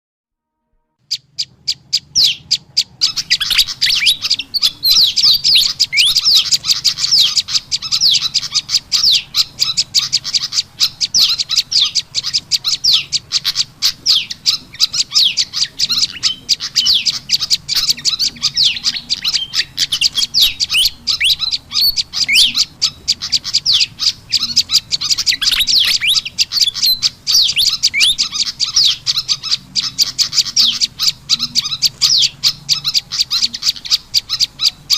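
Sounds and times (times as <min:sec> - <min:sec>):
rapid high-pitched bird chirps: 0:01.0 - 0:34.9.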